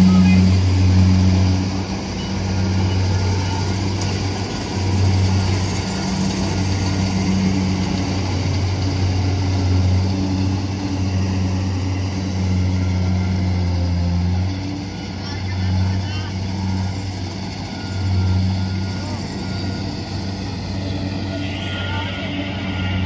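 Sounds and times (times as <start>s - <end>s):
cutting and threshing machinery: 0.0s - 23.0s
diesel engine humming: 0.0s - 23.0s.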